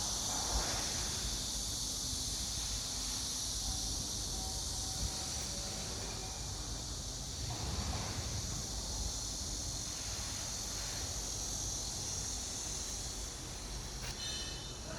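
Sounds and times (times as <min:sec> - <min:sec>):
insects chirping: 0:00.0 - 0:14.9.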